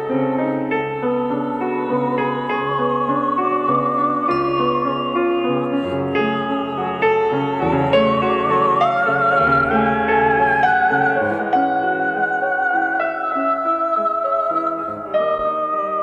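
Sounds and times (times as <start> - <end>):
piano chords: 0.0 - 16.0
wavering high melody: 1.4 - 16.0.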